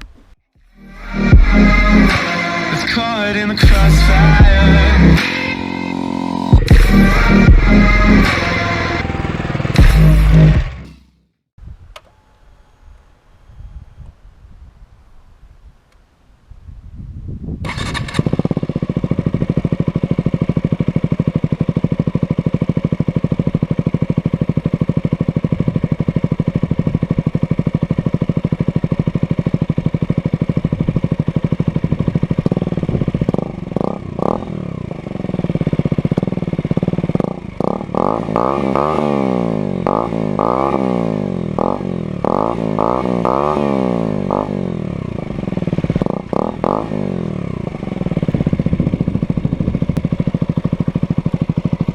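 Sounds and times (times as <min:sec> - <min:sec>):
motorcycle engine idling and revving: 0:00.0 - 0:11.5, 0:17.6 - 0:51.9.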